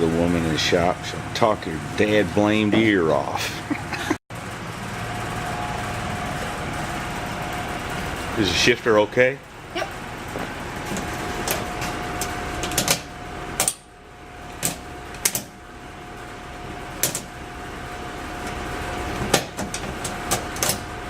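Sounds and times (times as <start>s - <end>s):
steady hum: 0.0s - 21.0s
steady whine: 0.0s - 21.0s.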